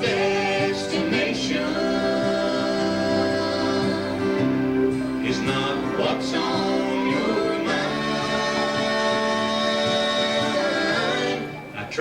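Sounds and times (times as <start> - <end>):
person singing: 0.0 - 11.7
gospel band playing slow song: 0.0 - 12.0.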